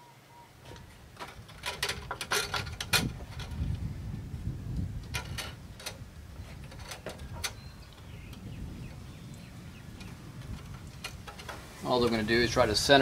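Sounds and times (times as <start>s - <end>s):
low handling rumble: 0.6s - 13.0s.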